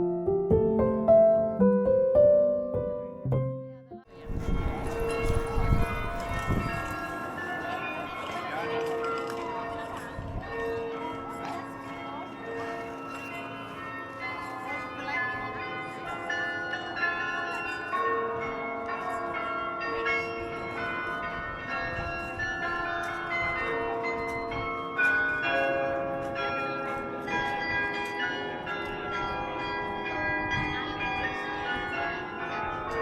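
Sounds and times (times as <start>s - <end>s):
carillon bells melody: 4.1s - 33.0s.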